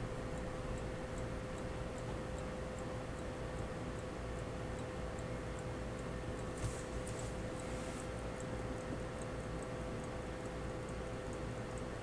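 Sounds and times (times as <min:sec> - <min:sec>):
pocket watch ticking: 0:00.3 - 0:06.6, 0:07.6 - 0:12.0.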